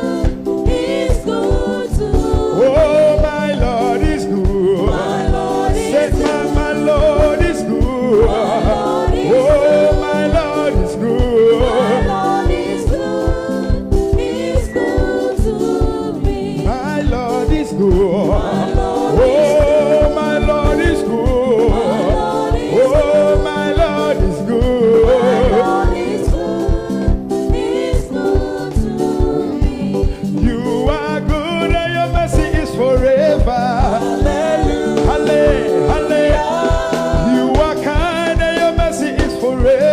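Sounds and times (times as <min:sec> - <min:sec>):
fast drum beat: 0:00.0 - 0:39.9
gospel music with singing: 0:00.0 - 0:39.9.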